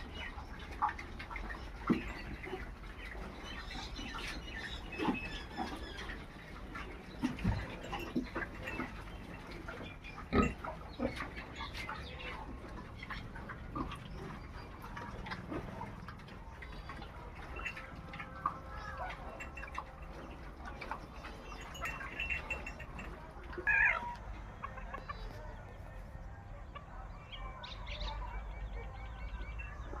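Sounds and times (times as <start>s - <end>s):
pigs grunting: 0.0s - 25.9s
animal squeaks and clucks: 0.0s - 30.0s
knocks and shuffling in a pen: 0.0s - 30.0s.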